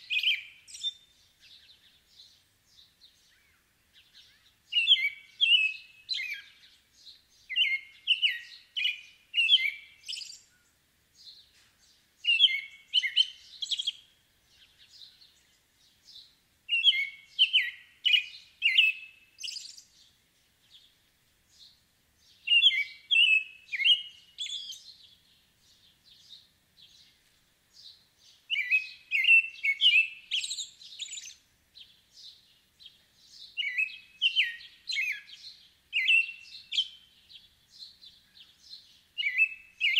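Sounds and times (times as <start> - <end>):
robin singing whistled notes: 0.0 - 39.9.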